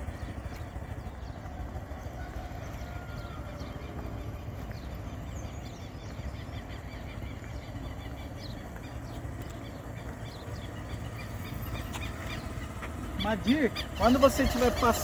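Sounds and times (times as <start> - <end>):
birds chirping: 0.0 - 15.0
distant motorcycle: 0.0 - 15.0
low steady rumble: 0.0 - 15.0.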